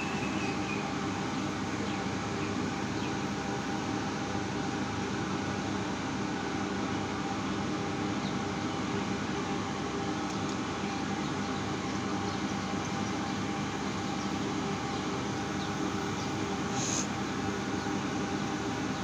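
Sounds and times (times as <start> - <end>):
steady mechanical drone: 0.0 - 19.0.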